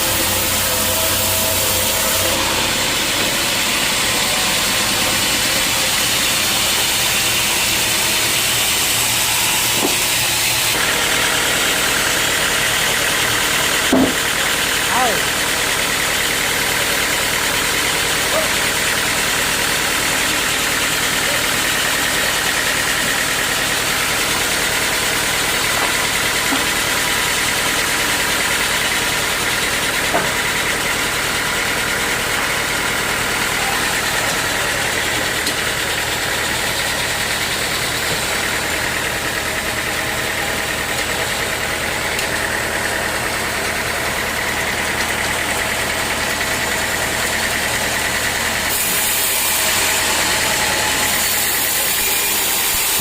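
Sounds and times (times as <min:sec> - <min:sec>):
sawmill machinery drone: 0:00.0 - 0:53.0.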